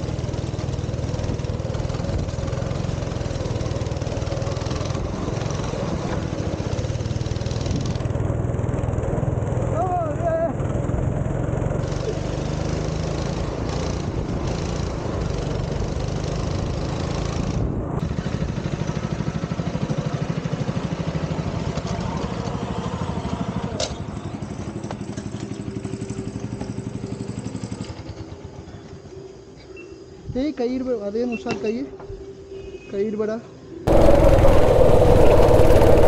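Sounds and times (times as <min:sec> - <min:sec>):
go-kart engine running: 0:00.0 - 0:28.7, 0:33.9 - 0:36.0.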